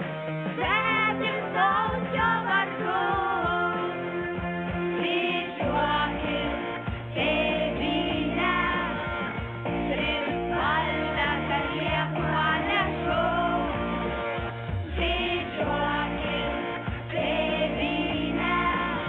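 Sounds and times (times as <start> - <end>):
instrumental accompaniment with bass: 0.0 - 19.0
lead singer: 0.5 - 19.0
children's choir singing: 0.6 - 4.0, 4.9 - 19.0.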